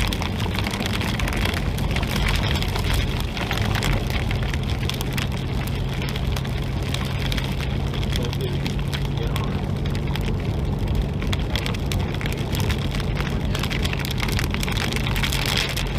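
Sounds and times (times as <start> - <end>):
car engine and road hum: 0.0 - 15.9
heavy rain on a car: 0.0 - 15.9.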